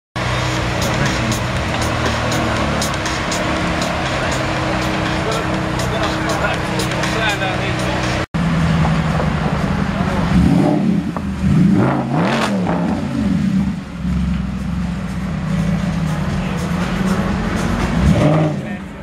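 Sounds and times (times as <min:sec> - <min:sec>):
car engine idling and revving: 0:00.2 - 0:19.0.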